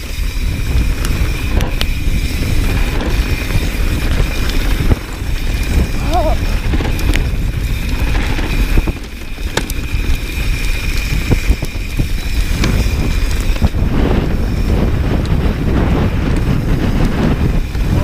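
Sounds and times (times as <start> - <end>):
mountain bike rolling on dirt: 0.0 - 18.0
wind buffeting microphone: 0.0 - 18.0.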